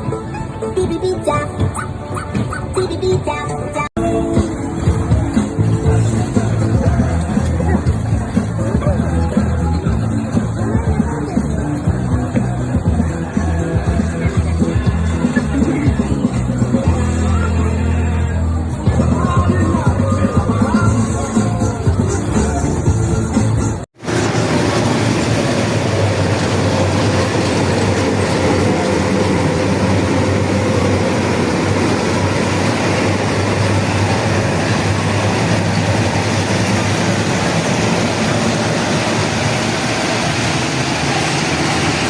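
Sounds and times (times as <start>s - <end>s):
heavy vehicle engine rumbling: 0.0s - 42.0s.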